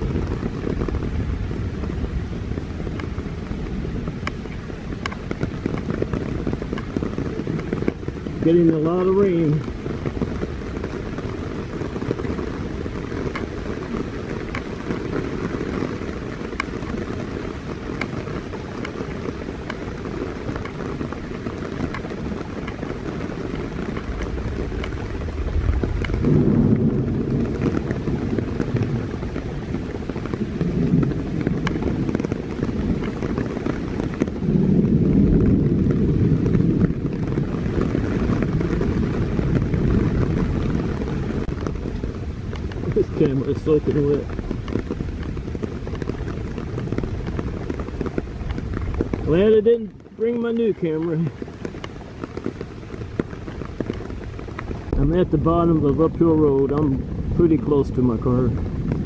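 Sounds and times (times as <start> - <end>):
heavy rain falling: 0.0 - 59.0
raindrops pattering on microphone: 0.0 - 59.0.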